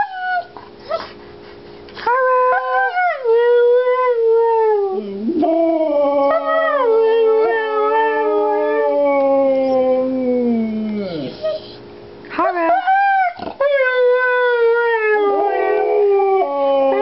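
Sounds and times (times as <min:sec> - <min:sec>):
dogs howling: 0:02.0 - 0:11.7, 0:12.5 - 0:17.0.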